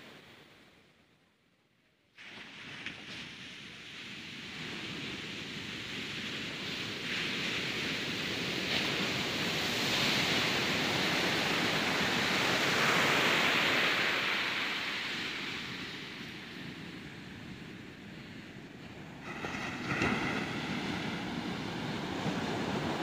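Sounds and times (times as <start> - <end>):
surf breaking on beach: 2.2 - 23.0.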